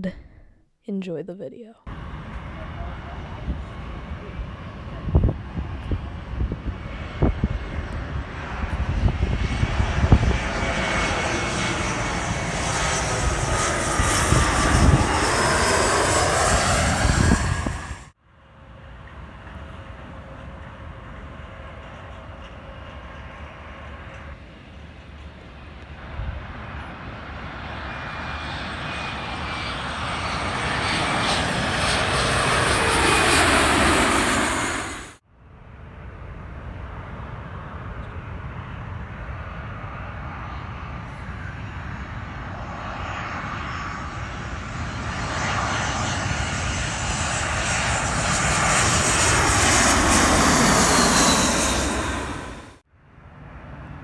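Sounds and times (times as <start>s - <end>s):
airliner engines passing overhead: 1.9s - 54.0s.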